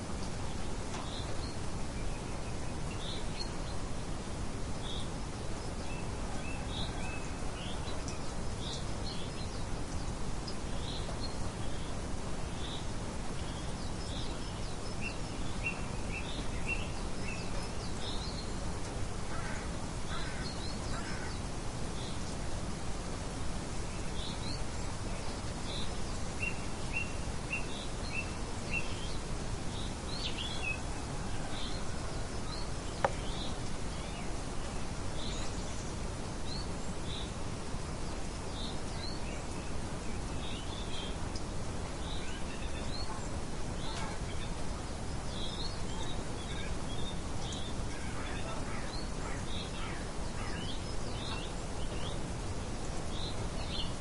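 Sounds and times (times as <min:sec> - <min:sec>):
wind-like outdoor noise: 0:00.0 - 0:54.0
small birds chirping: 0:00.2 - 0:54.0.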